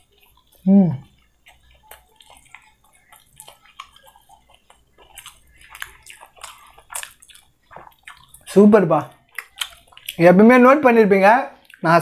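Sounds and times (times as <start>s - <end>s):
person chewing: 0.0s - 10.6s, 11.5s - 12.0s.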